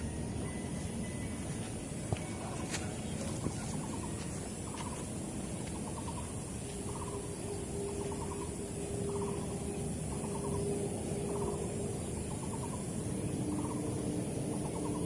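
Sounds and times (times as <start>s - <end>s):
steady hum: 0.0s - 15.0s
steady low rumble: 0.0s - 15.0s.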